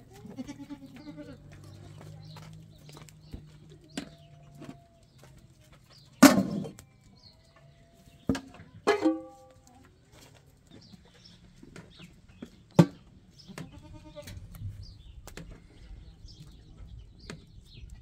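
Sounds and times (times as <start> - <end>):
farmyard animal calls: 0.0 - 18.0.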